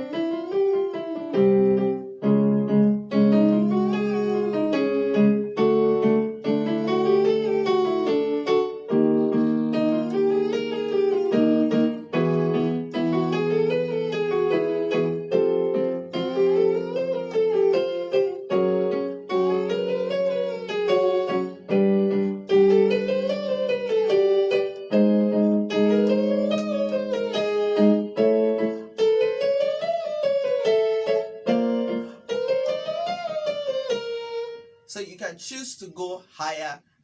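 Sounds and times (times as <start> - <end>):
piano chords and scales: 0.0 - 36.2.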